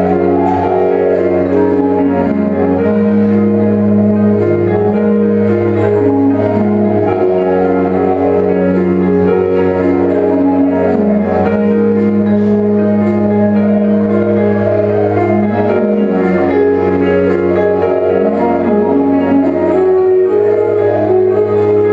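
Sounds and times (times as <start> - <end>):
instrumental dance music: 0.0 - 21.9.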